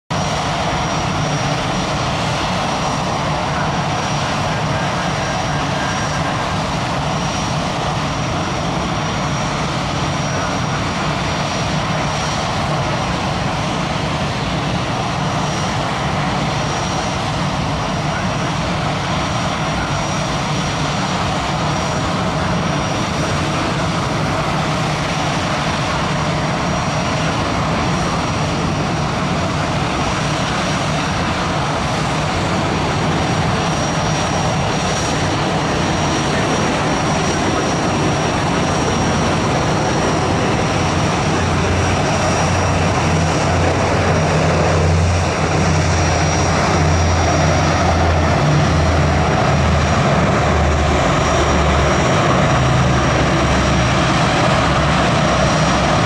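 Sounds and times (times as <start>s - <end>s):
propeller aircraft engines droning: 0.1s - 56.0s.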